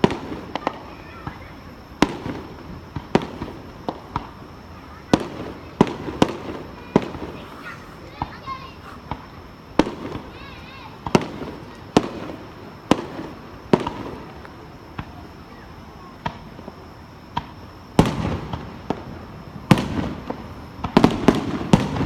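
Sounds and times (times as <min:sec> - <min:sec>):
fireworks bangs with echo: 0:00.0 - 0:15.3, 0:16.1 - 0:22.0.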